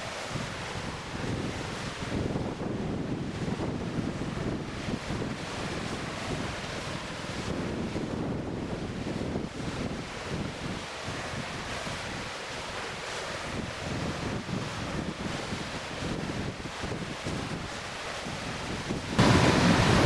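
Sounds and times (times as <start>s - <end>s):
waves washing: 0.0s - 20.0s
wind buffeting microphone: 0.3s - 12.3s, 13.4s - 20.0s.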